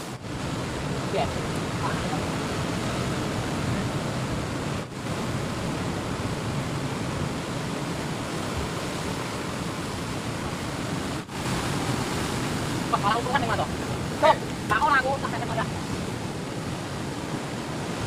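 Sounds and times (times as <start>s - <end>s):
surf breaking on rocks: 0.0s - 18.0s.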